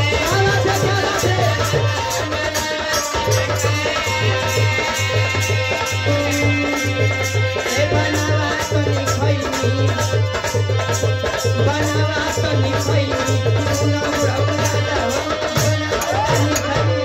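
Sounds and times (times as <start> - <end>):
hand drum rhythm: 0.0 - 17.0
man singing into a microphone: 0.0 - 17.0.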